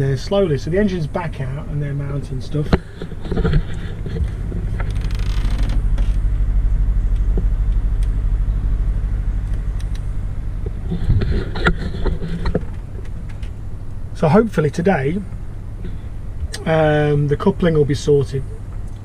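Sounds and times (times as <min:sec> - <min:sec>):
engine running with low pulse: 0:00.0 - 0:19.0.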